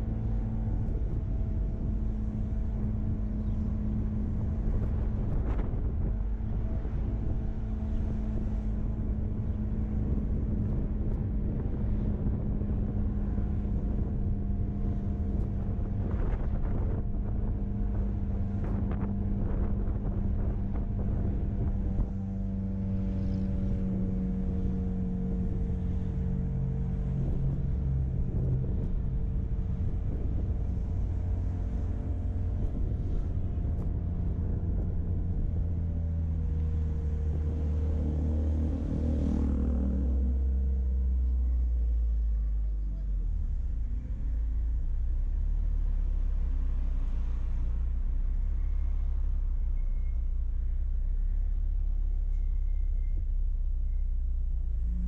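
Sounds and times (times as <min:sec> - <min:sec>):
road noise rumble: 0:00.0 - 0:55.0
vehicle engine running: 0:00.0 - 0:55.0.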